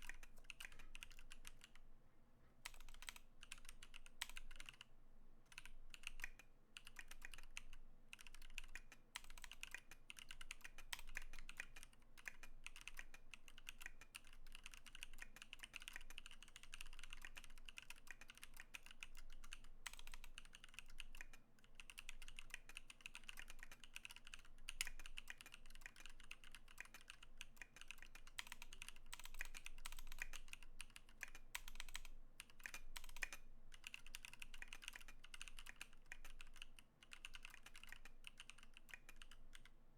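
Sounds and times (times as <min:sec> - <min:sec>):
fast typing on mechanical keyboard: 0:00.0 - 0:01.8, 0:02.7 - 0:04.9, 0:05.5 - 0:39.7.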